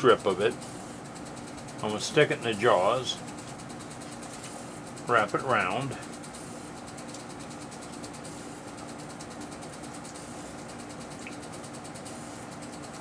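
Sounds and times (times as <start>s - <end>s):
workshop motor humming: 0.0s - 13.0s.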